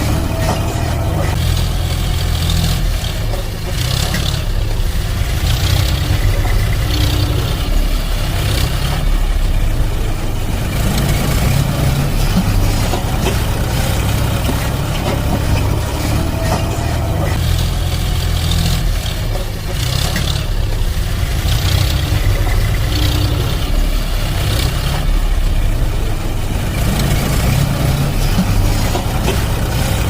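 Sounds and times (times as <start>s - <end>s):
heavy vehicle engine rumbling: 0.0s - 30.0s.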